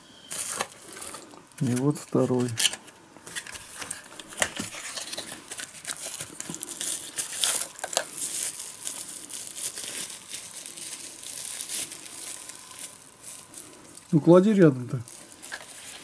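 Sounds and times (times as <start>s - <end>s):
plastic wrapping crinkling: 0.2s - 16.0s.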